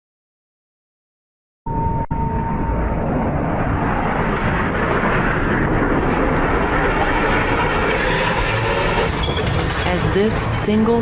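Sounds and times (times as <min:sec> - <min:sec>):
jet engine rushing: 0:01.7 - 0:11.0.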